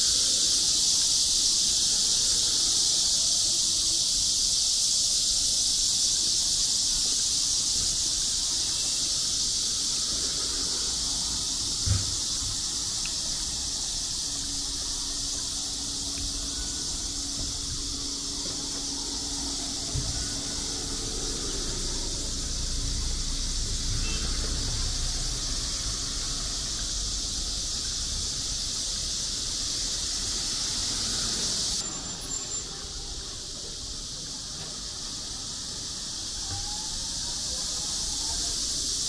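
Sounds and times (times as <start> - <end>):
cicadas buzzing: 0.0 - 39.0
low street rumble: 0.0 - 39.0.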